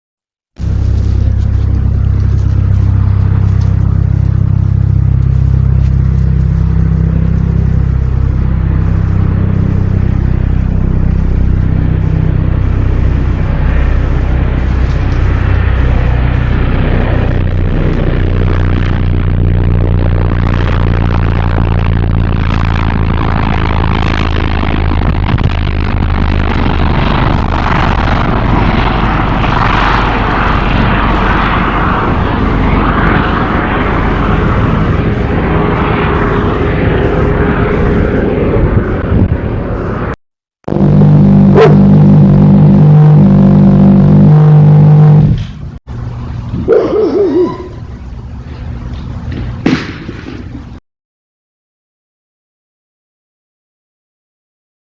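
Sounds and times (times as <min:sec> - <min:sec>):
low droning hum: 0:00.6 - 0:50.8.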